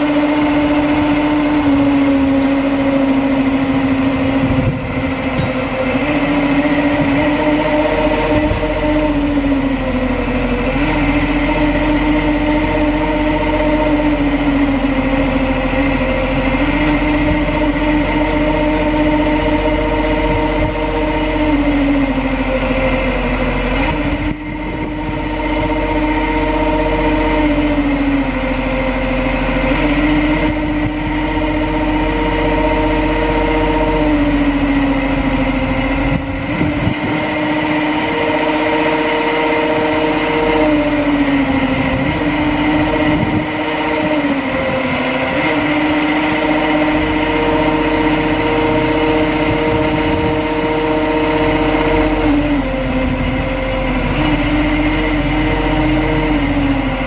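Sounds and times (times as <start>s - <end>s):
truck engine and hydraulics: 0.0s - 57.0s.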